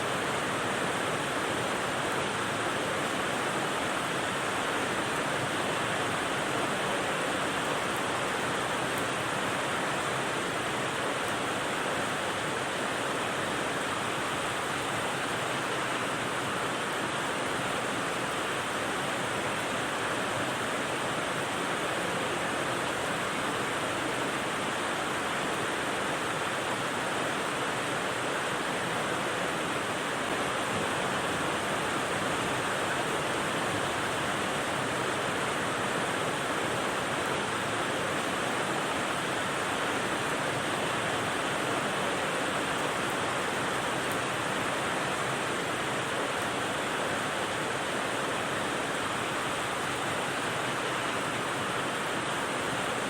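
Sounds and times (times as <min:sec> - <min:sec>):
rain white noise hiss: 0:00.0 - 0:53.0.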